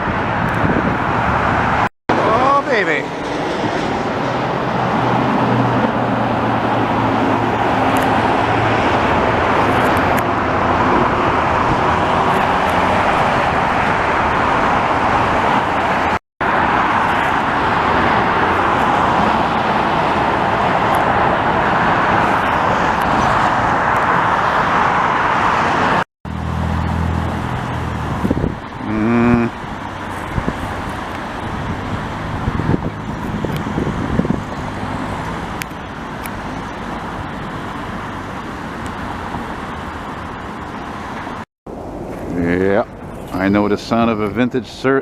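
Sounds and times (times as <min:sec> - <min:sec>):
highway traffic roar: 0:00.0 - 0:45.0.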